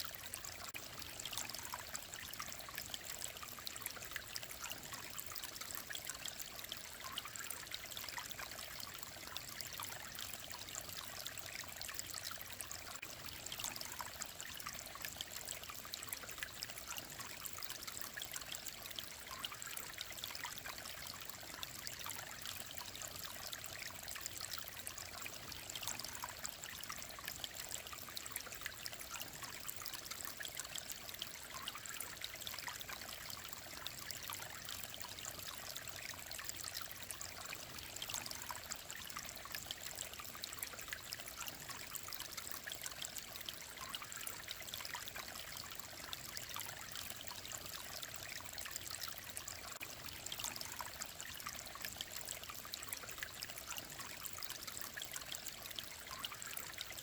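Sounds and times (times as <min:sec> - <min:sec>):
stream trickling and splashing: 0:00.0 - 0:57.0.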